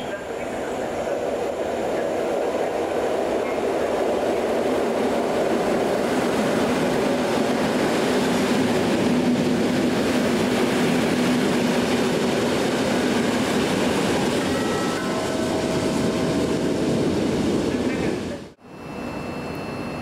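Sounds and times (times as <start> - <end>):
train cars rumbling on track: 0.0 - 18.6.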